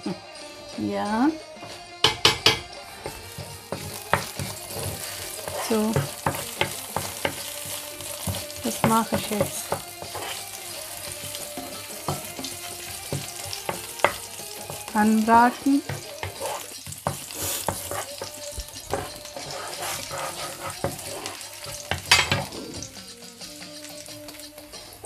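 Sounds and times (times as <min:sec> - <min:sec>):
garlic sizzling in oil: 0:01.2 - 0:25.0
wooden spatula scraping a pan: 0:02.8 - 0:22.9.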